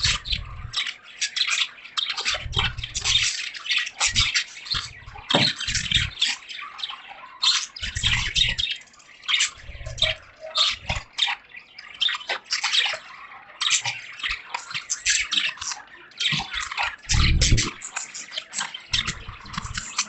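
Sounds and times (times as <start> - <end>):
budgies chattering: 0.0 - 20.0.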